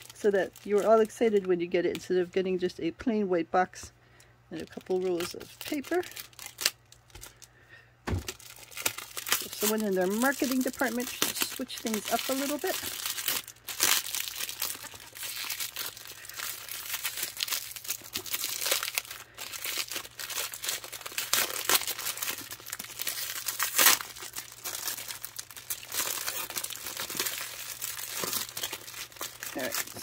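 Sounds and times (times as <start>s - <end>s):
plastic wrapping crinkling: 0.0s - 2.3s, 4.6s - 7.5s, 8.1s - 30.0s.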